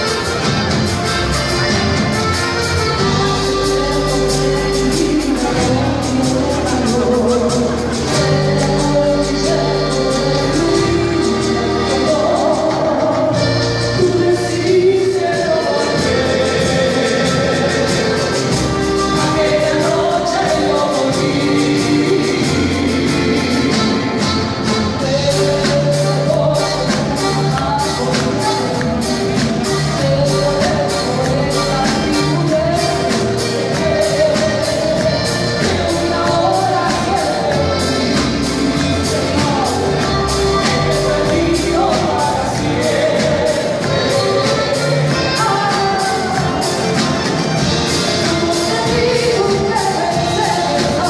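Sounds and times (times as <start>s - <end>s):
live dance band: 0.0s - 51.0s
person singing: 0.0s - 51.0s.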